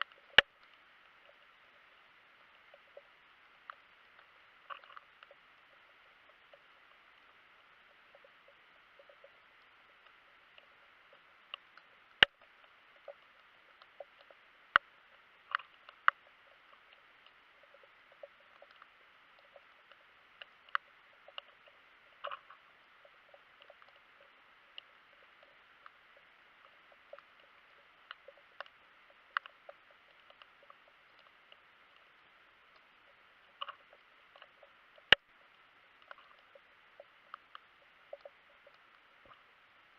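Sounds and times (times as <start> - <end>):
faint underwater hiss: 0.0 - 39.9
sharp underwater clicks and crackles: 0.0 - 39.9.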